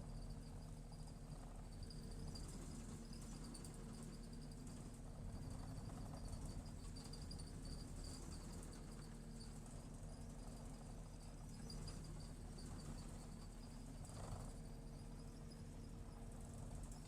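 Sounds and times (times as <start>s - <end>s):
faint low engine hum: 0.0s - 17.0s.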